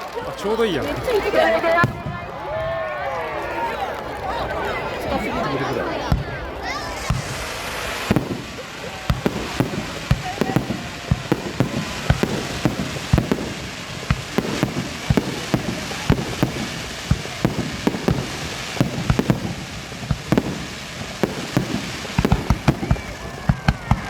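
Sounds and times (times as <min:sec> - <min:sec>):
fireworks bangs: 0:00.0 - 0:24.0
fireworks crackle: 0:00.0 - 0:24.0.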